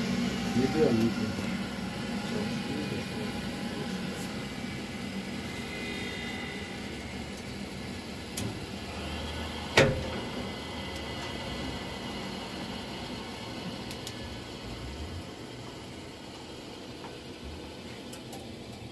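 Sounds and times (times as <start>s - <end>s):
boiler fan humming: 0.0s - 18.9s.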